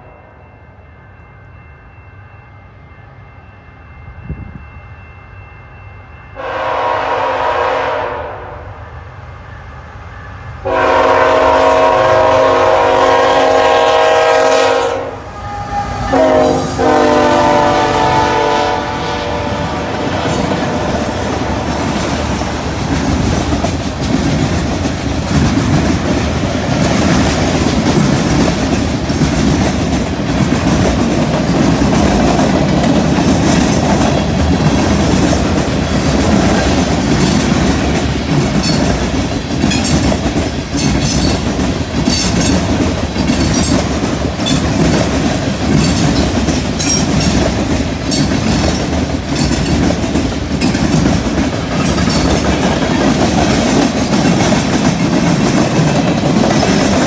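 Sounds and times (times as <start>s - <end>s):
freight train wheels clacking: 10.7s - 57.0s.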